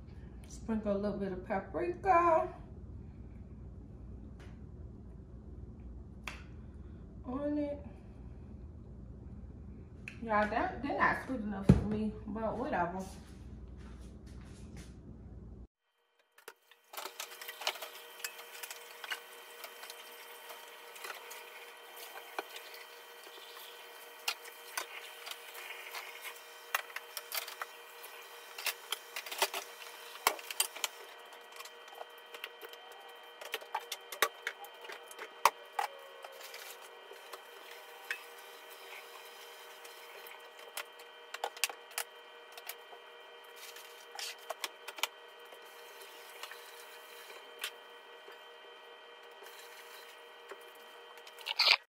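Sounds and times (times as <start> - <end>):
steady hum: 0.0 - 15.7, 16.9 - 51.9.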